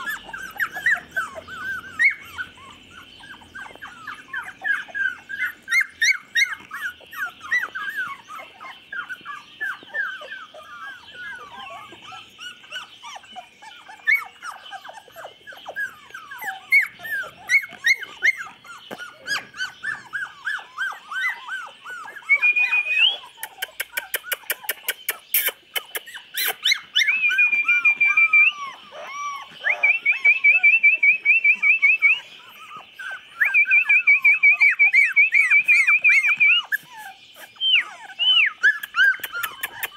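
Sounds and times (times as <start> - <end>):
puppies whimpering and squeaking: 0.0 - 39.9.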